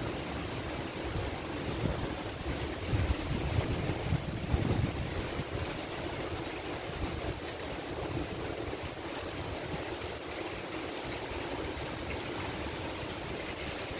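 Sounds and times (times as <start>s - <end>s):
wind rushing through trees: 0.0s - 13.9s
wind gusts buffeting microphone: 0.2s - 13.9s.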